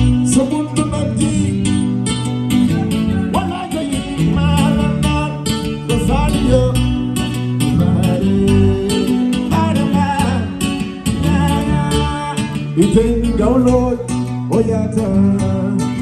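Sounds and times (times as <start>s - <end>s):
acoustic guitar plucked: 0.0s - 16.0s
man singing: 0.0s - 16.0s.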